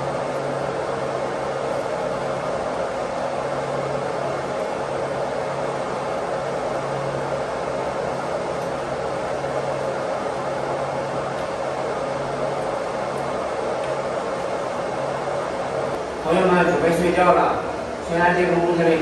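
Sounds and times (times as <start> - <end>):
water pump machinery humming: 0.0 - 19.0.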